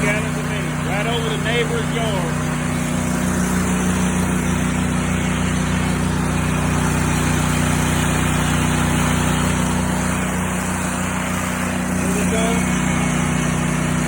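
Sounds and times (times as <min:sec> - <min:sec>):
engine running steadily: 0:00.0 - 0:14.0
water spray hissing: 0:00.0 - 0:14.0.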